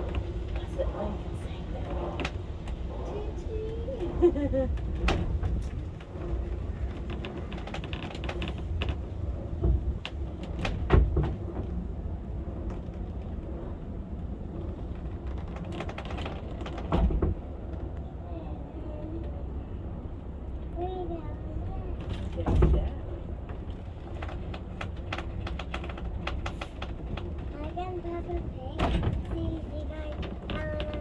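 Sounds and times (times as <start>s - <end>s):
funicular car rumbling: 0.0s - 31.0s.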